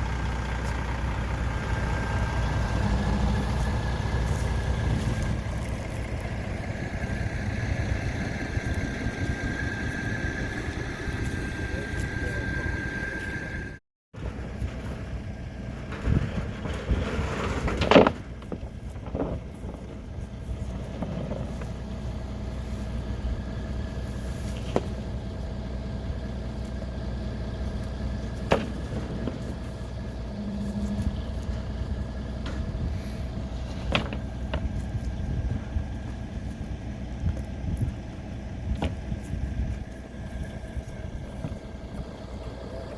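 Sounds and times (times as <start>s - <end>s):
engine rumbling: 0.0s - 42.9s.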